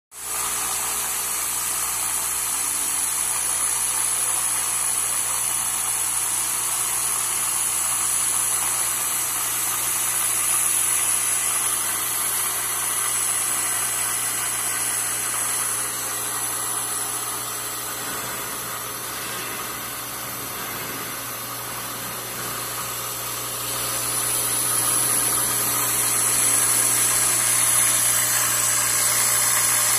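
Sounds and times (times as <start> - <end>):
milling machine cutting metal: 0.2 - 29.9.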